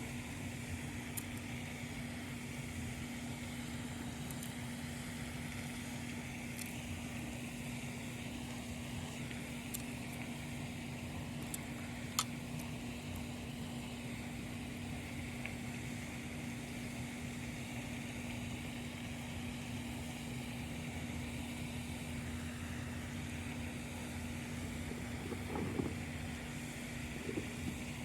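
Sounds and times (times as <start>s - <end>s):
motor humming: 0.0s - 28.0s.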